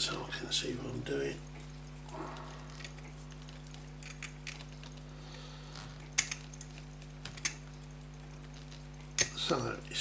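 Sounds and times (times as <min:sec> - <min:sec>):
low electrical hum: 0:00.0 - 0:10.0
pocket watch clicking: 0:00.8 - 0:05.2, 0:05.8 - 0:10.0.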